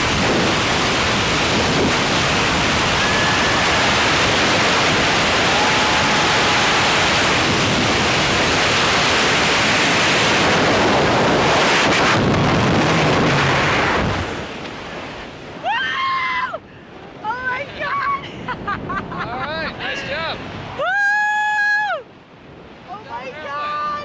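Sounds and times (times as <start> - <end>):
wind rushing over microphone: 0.0 - 15.7, 17.0 - 24.0.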